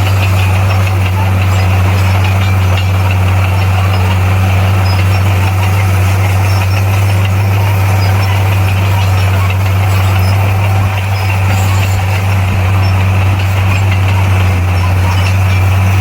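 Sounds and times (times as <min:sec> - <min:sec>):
bulldozer diesel engine humming: 0:00.0 - 0:16.0.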